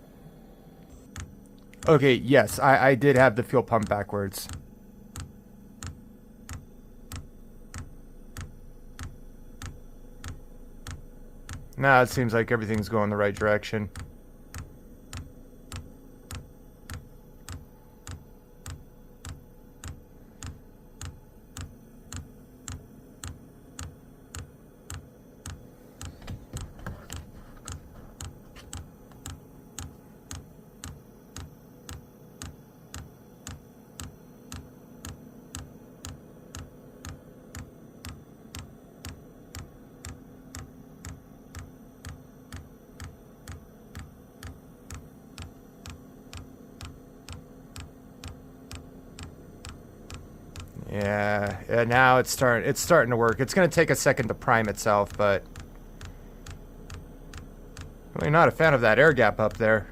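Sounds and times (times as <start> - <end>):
steady hum: 0.0 - 59.9.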